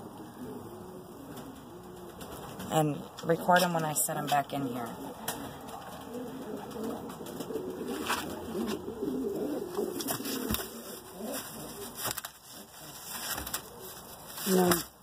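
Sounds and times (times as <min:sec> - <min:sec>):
pigeon cooing: 0:00.0 - 0:03.1, 0:04.7 - 0:14.9.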